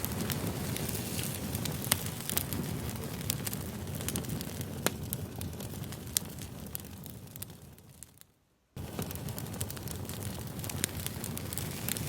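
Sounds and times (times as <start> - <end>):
burning wood crackling and popping: 0.0 - 12.0
low rumble of flames: 0.0 - 12.0.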